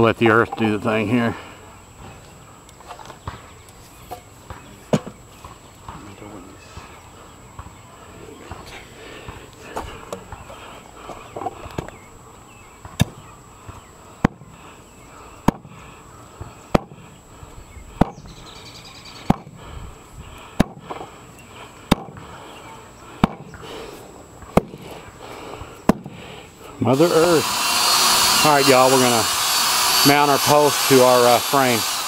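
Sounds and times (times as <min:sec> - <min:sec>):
faint background noise: 0:00.0 - 0:27.4.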